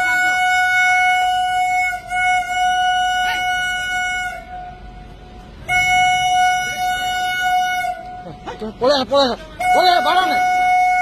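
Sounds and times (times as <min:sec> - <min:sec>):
locomotive horn blasts: 0:00.0 - 0:08.2, 0:09.6 - 0:11.0.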